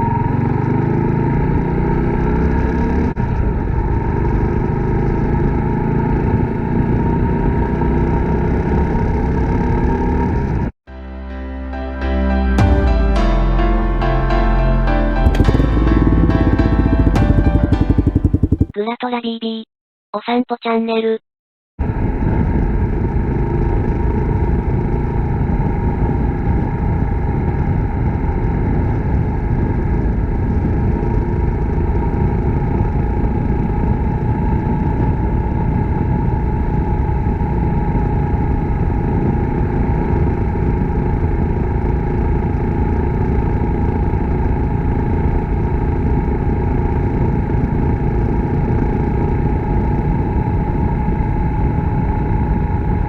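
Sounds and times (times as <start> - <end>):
motorcycle engine running: 0.0 - 10.7, 15.2 - 18.8, 21.8 - 53.0.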